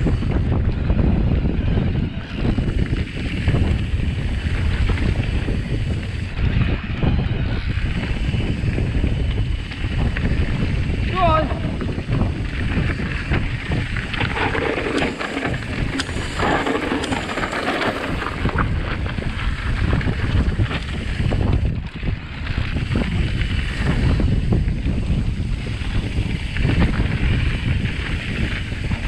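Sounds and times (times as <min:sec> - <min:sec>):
bike clicks and rattles: 0:00.0 - 0:29.0
tyres rumbling over dirt: 0:00.0 - 0:29.0
wind buffeting microphone: 0:00.0 - 0:29.0.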